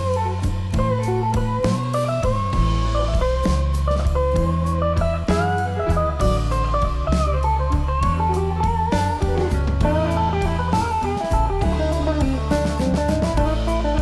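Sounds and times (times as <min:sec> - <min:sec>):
guitar-led instrumental music: 0:00.0 - 0:14.0.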